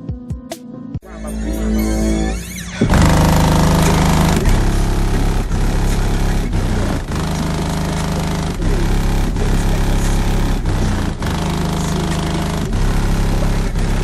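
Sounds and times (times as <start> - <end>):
bass-heavy music through car speakers: 0.0 - 14.0
harsh distorted noise: 1.5 - 14.0.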